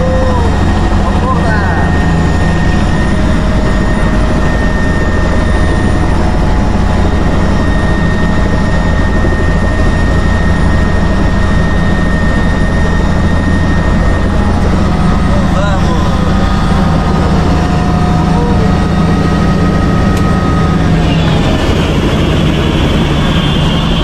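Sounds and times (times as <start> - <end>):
helicopter engine and rotor: 0.0 - 24.0.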